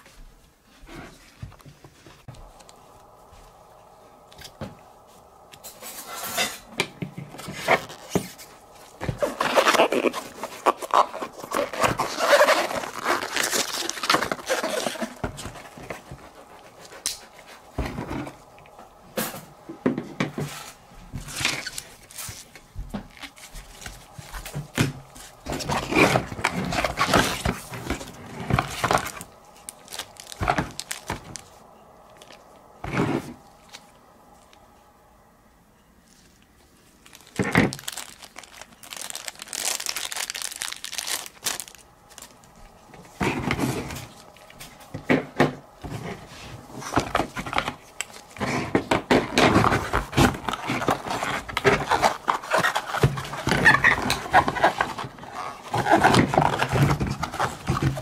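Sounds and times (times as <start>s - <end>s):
rubbing and rustling: 0.0s - 33.9s, 36.1s - 58.0s
faint steady hum: 0.0s - 58.0s.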